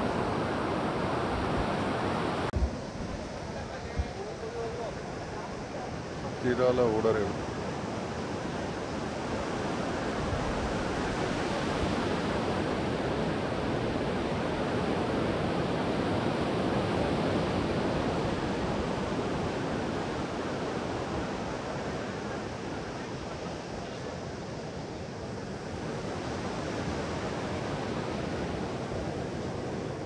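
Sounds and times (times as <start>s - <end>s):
surf breaking on a beach: 0.0s - 30.0s.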